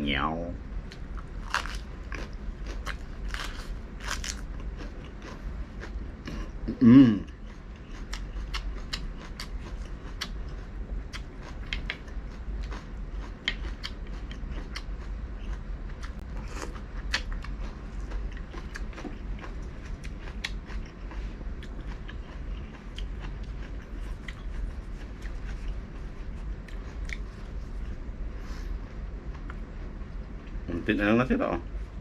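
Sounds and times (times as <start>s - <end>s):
steady low hum: 0.0s - 32.0s
chewing and crunching food: 0.9s - 28.1s.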